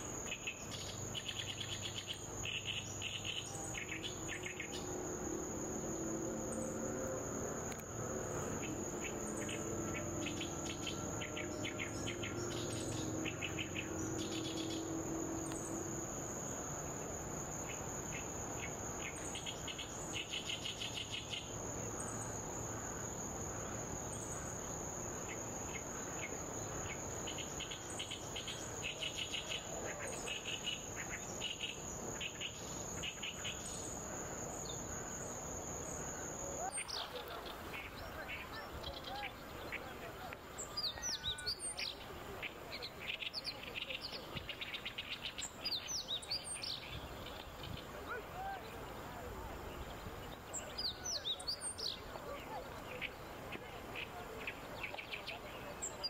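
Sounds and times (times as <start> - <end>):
insect high-pitched trill: 0.0 - 56.0
songbird chirping: 0.0 - 56.0.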